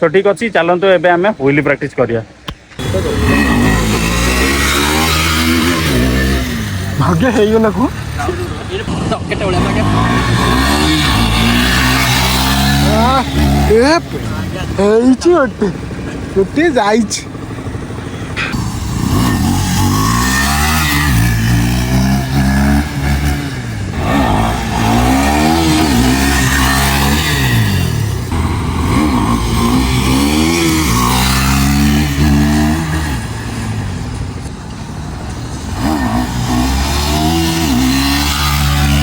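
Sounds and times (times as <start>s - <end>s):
motorcycle engine revving: 2.6s - 39.0s.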